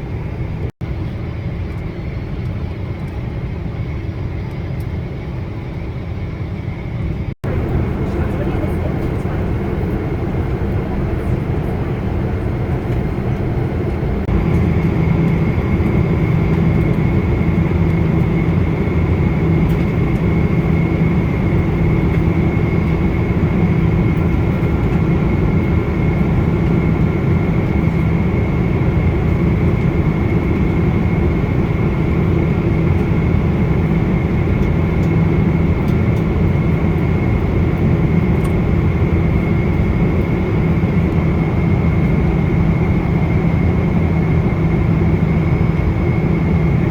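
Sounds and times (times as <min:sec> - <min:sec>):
jet engine cabin rumble: 0:00.0 - 0:46.9.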